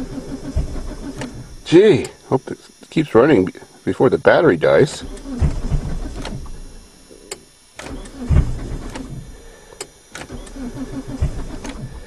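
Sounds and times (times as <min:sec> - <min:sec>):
engine sputtering: 0:00.0 - 0:12.0.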